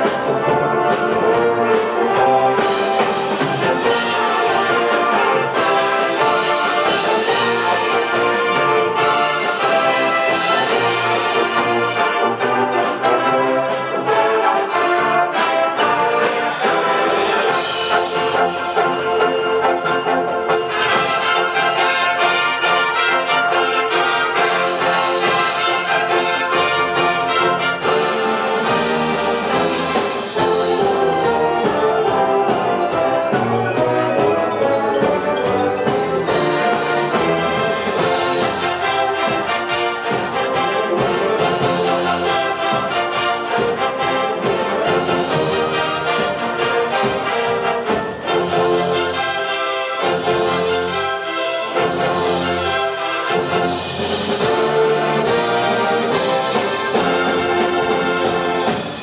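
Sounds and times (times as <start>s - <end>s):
brass-led wind band playing: 0.0s - 59.0s
percussion strokes: 0.0s - 59.0s.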